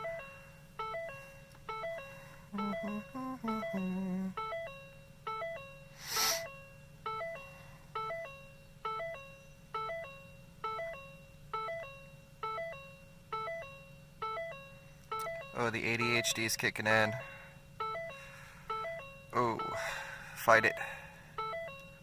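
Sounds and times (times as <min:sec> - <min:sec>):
car warning chime dinging: 0:00.0 - 0:22.0.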